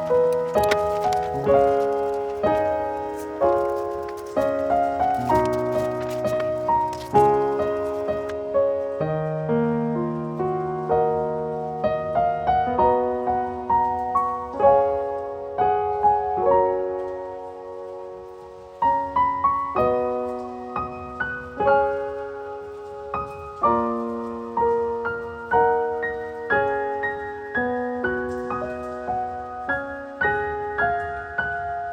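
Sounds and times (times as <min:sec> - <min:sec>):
gentle solo piano piece: 0:00.0 - 0:31.9.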